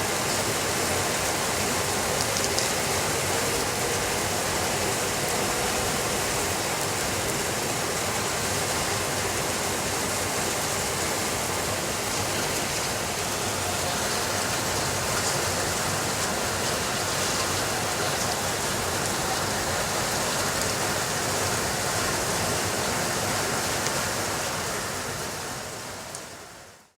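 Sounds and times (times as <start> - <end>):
heavy rainfall: 0.0 - 27.0.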